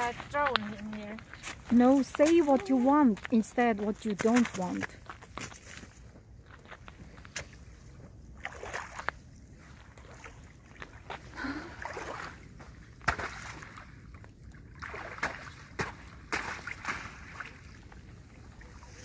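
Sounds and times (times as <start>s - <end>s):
boots splashing in water: 0.0s - 7.8s, 8.4s - 19.0s.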